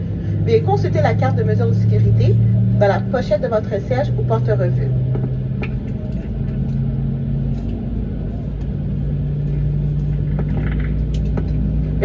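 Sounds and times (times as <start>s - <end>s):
aircraft cabin hum: 0.0s - 12.0s.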